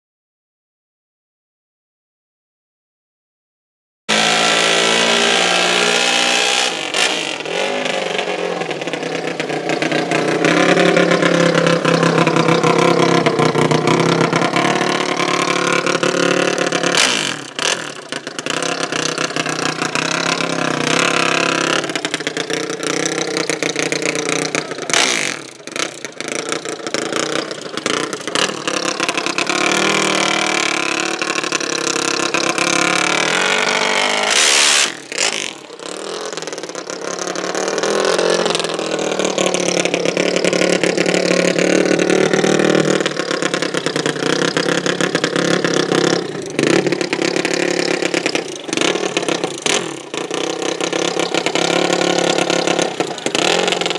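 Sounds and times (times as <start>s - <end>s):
high-revving racing engines: 4.1s - 53.9s.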